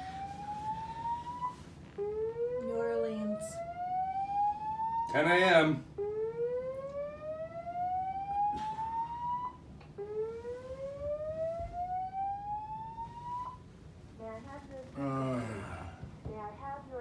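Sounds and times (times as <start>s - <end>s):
fire alarm slow-whoop tone: 0.0s - 13.7s.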